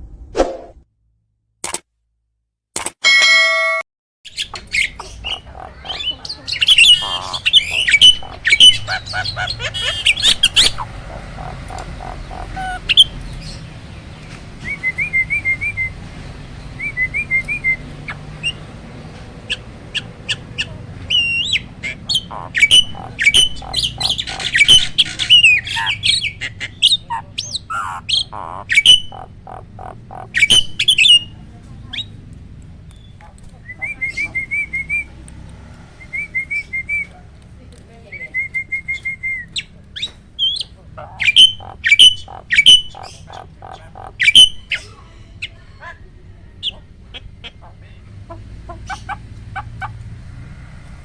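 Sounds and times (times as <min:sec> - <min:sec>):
starling singing: 0:04.3 - 0:32.2, 0:33.0 - 0:35.3, 0:38.0 - 0:50.3.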